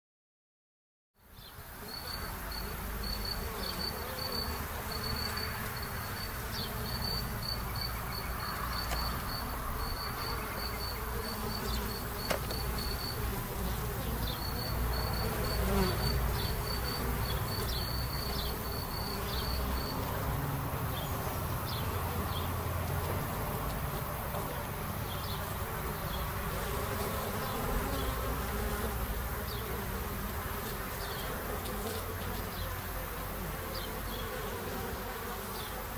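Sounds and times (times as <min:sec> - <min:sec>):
honeybees buzzing: 0:01.3 - 0:35.9.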